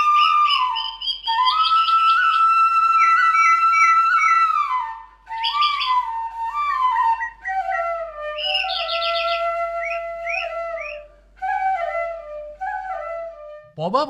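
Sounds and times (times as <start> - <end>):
flute playing slow melody: 0.0 - 13.8.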